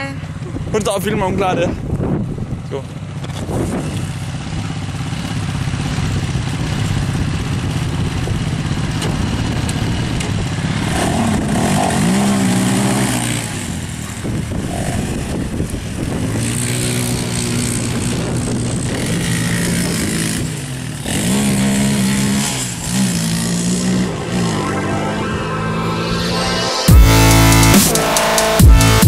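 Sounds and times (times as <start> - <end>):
quad bike engines revving: 0.0 - 25.0.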